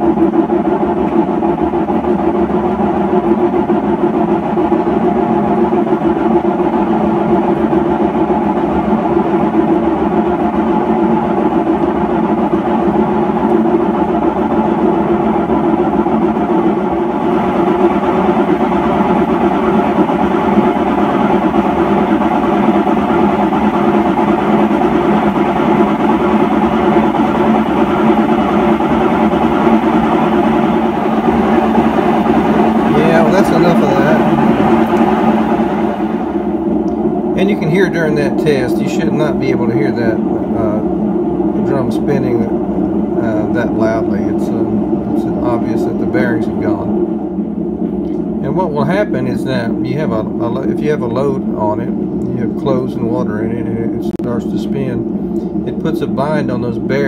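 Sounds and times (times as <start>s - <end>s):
bearing roar: 0.0s - 57.0s
washing machine drum spinning: 0.0s - 57.0s.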